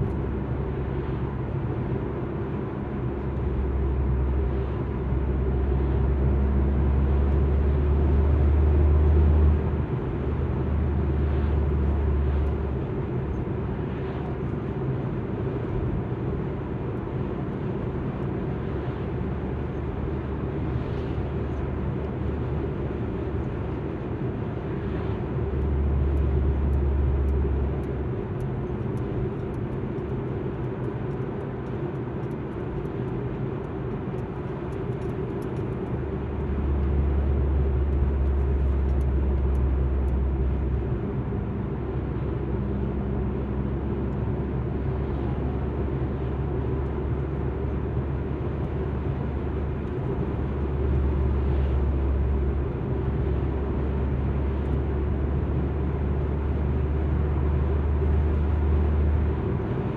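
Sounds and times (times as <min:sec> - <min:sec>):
car interior road and engine noise: 0:00.0 - 0:59.9.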